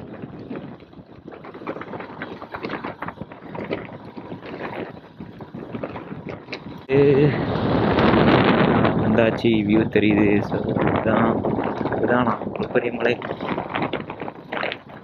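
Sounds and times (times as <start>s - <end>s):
knocks and rattles of bike: 0.0s - 15.0s
motorcycle riding slowly: 0.0s - 15.0s
wind noise on microphone: 0.0s - 15.0s.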